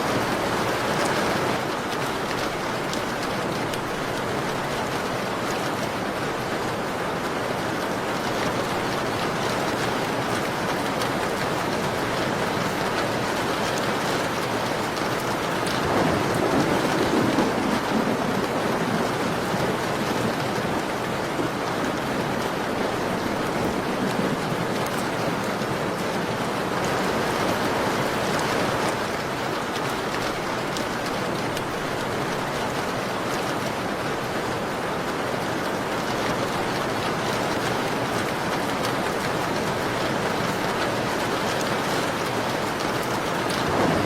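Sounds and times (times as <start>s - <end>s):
rain pattering on a window: 0.0s - 44.0s.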